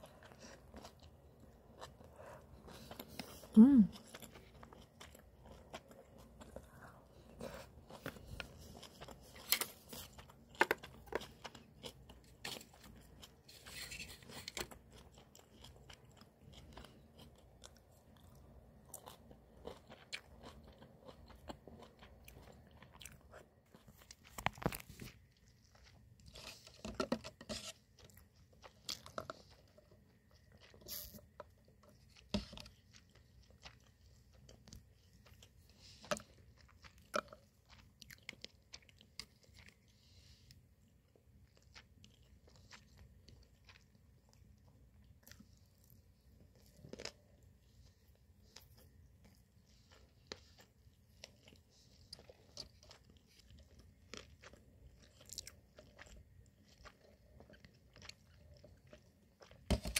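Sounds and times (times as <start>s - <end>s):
soft chewing: 0.0s - 59.9s.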